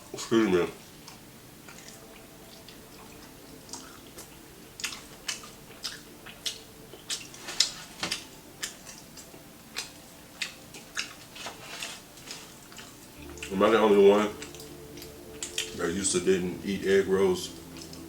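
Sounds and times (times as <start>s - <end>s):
crunchy chewing: 0.1s - 18.0s.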